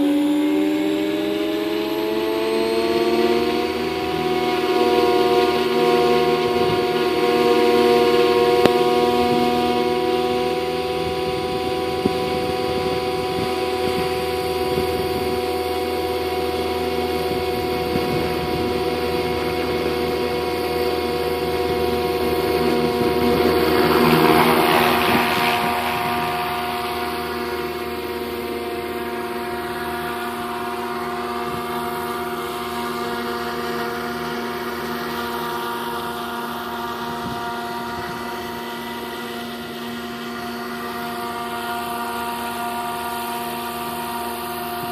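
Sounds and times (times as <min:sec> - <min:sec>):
rc helicopter whine: 0:00.0 - 0:44.9.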